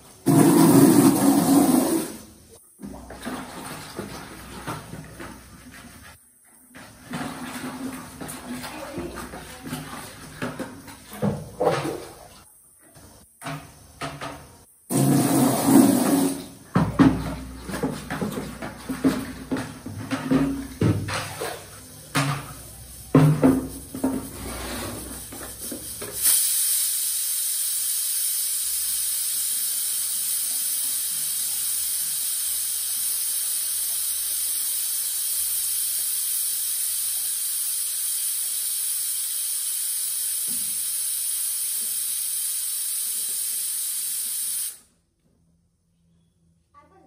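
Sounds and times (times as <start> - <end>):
cooking hiss on stove: 0.0 - 3.2, 3.8 - 45.0.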